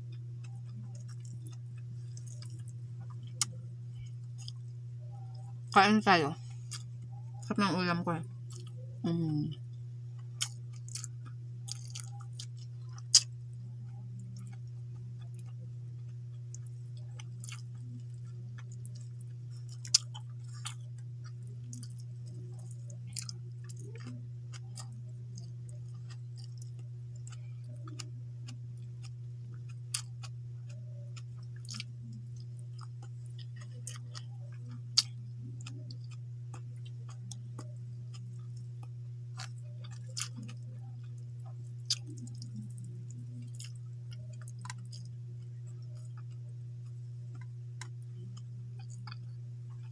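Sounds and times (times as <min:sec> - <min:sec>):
person chewing food: 0:00.0 - 0:03.6, 0:04.2 - 0:05.8, 0:06.5 - 0:07.5, 0:08.4 - 0:08.8, 0:10.1 - 0:49.9
steady low hum: 0:00.0 - 0:49.9.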